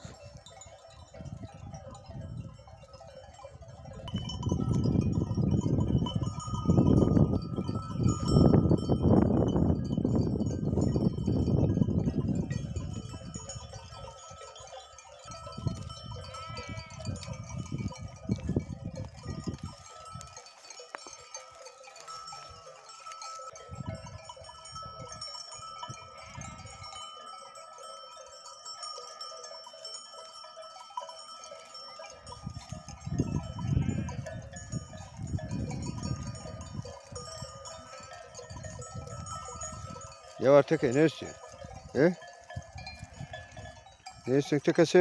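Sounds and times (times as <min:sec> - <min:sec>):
wind rumbling on microphone: 0:00.0 - 0:14.4, 0:15.2 - 0:21.1, 0:22.1 - 0:27.2, 0:32.2 - 0:40.6, 0:41.2 - 0:44.3
livestock bells clinking: 0:00.0 - 0:45.0.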